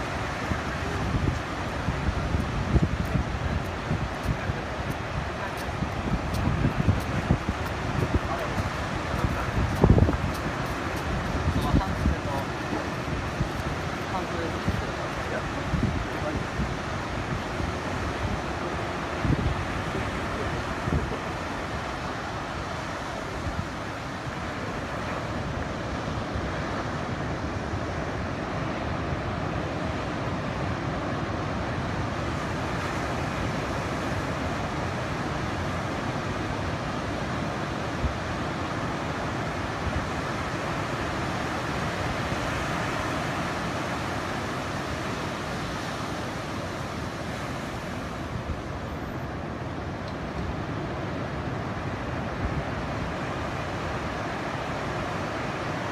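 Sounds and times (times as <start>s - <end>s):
surf breaking on a beach: 0.0s - 55.9s
wind rumbling on microphone: 0.0s - 55.9s.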